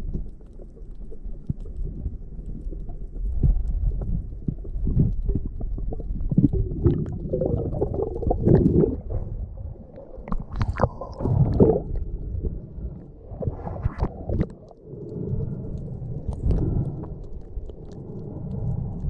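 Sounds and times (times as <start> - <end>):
muffled underwater rumble: 0.0 - 19.0.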